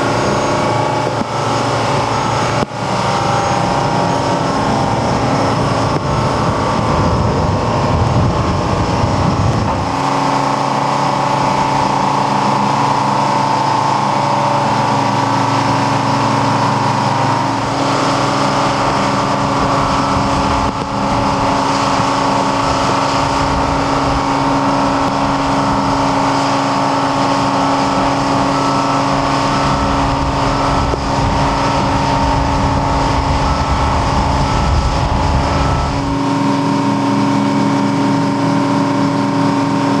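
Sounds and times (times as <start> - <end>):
travel lift engine and hydraulic drive: 0.0 - 40.0.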